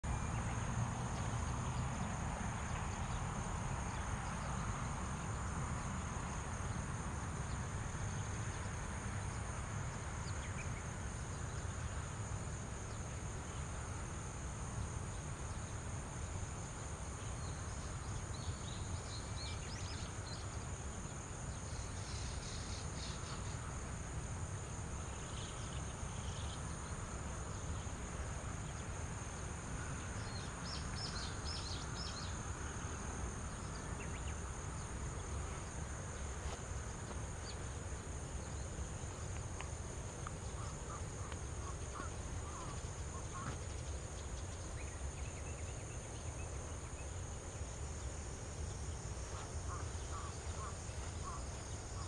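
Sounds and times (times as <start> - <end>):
insects trilling: 0.0 - 52.0.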